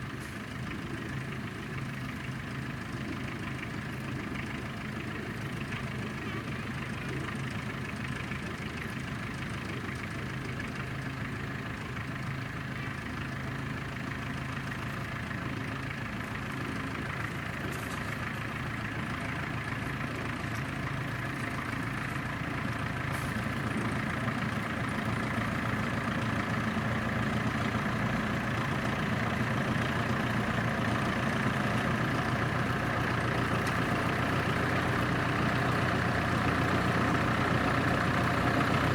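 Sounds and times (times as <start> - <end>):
locomotive diesel engine running: 0.0 - 38.9.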